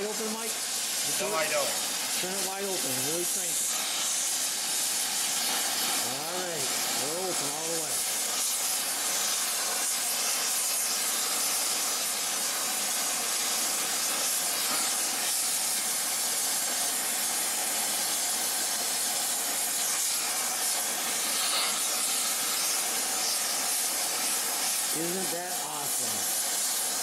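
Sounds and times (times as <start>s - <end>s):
torch flame hissing: 0.0s - 27.0s.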